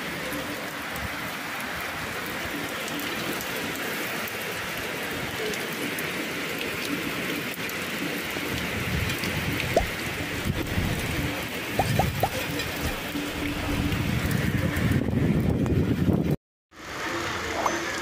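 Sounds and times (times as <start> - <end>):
heavy rain on tile roofs: 0.0 - 18.0.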